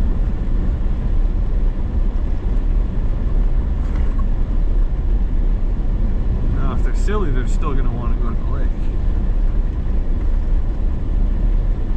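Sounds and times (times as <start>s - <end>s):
vehicle engine low rumble: 0.0s - 11.9s.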